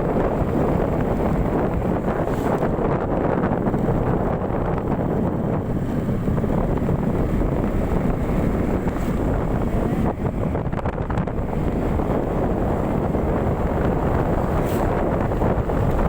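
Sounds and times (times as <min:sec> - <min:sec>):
road noise: 0:00.0 - 0:16.0
vehicle engine: 0:00.0 - 0:16.0
wind buffeting microphone: 0:00.0 - 0:16.0.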